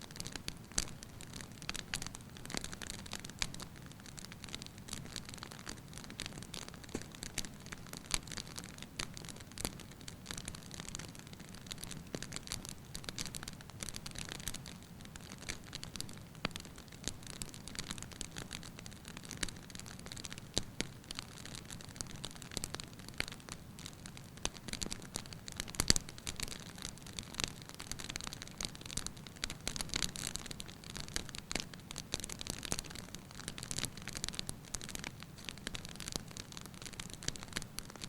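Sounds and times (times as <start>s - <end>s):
logs crackling and popping: 0.1s - 38.0s.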